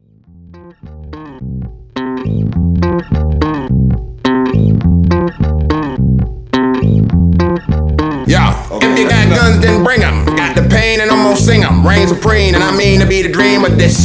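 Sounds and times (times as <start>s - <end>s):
instrumental music with plucked bass: 0.0s - 14.0s.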